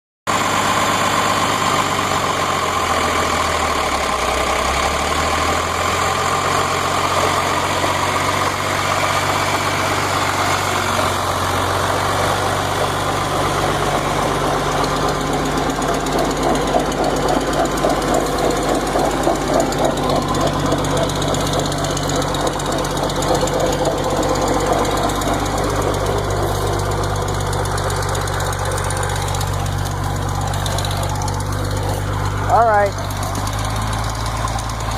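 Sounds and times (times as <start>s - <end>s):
tractor diesel engine chuffing: 0.3s - 34.9s.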